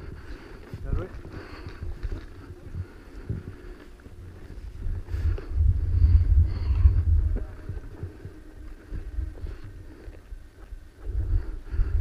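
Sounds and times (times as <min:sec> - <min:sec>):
rustling through dry brush: 0:00.0 - 0:12.0
wind buffeting microphone: 0:00.0 - 0:12.0.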